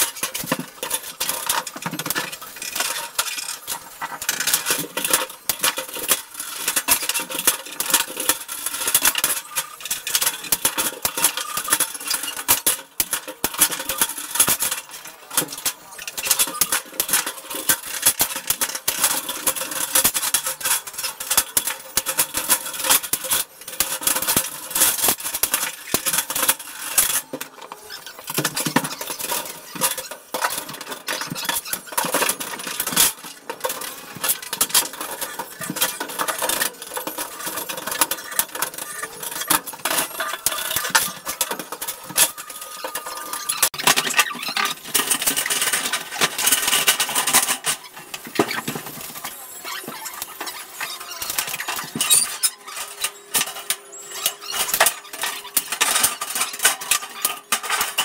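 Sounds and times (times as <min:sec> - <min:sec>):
steel studs clattering and scraping: 0:00.0 - 0:58.0.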